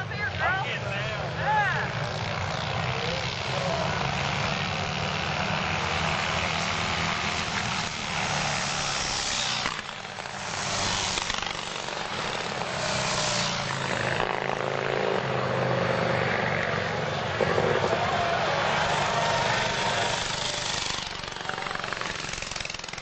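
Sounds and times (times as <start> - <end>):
motorcycle engines passing: 0.0 - 23.0.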